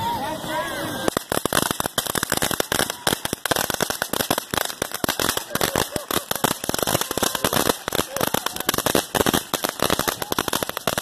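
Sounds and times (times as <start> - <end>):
fireworks popping and cracking: 0.0 - 11.0.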